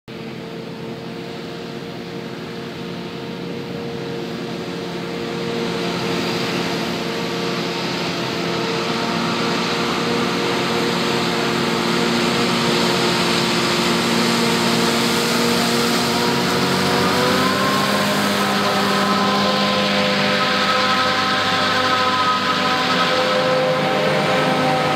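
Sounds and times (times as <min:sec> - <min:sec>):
harvester and tractor engines: 0:00.1 - 0:24.9.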